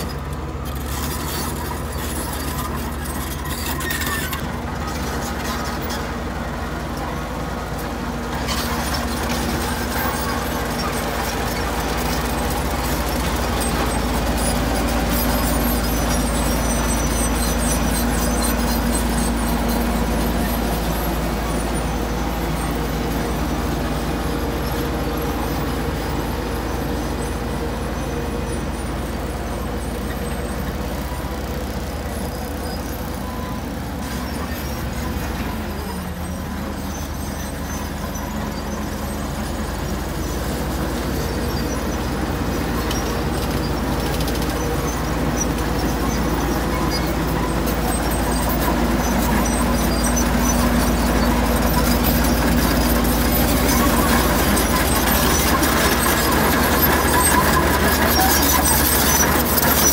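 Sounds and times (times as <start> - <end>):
diesel construction machinery rumbling: 0.0 - 59.9.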